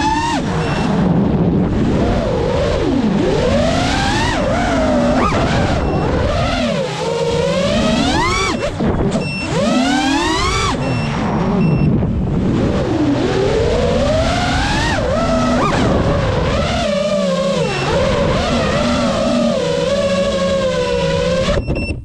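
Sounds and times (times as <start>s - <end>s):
drone propellers whining: 0.0s - 21.9s.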